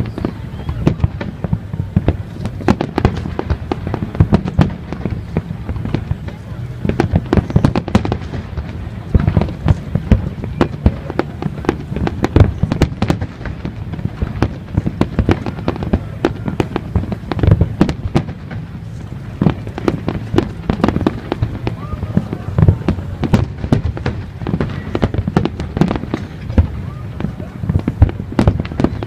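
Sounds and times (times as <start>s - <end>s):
fireworks popping and banging: 0.0s - 29.0s
low rumble of booms: 0.0s - 29.0s.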